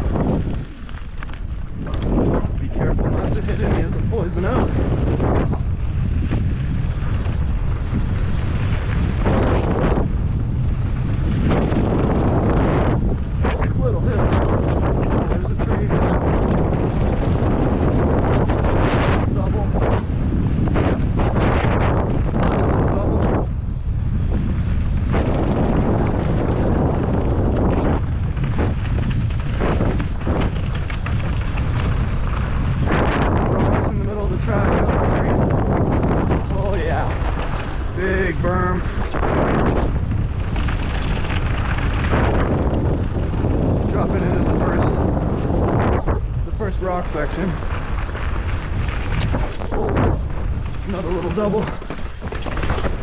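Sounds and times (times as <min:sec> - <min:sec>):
bike tyres on dirt trail: 0:00.0 - 0:53.0
wind buffeting microphone: 0:00.0 - 0:53.0.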